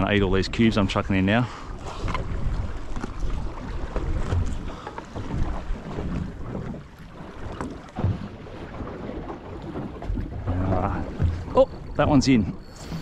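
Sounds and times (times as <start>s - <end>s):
water slapping against hull: 0.0s - 13.0s.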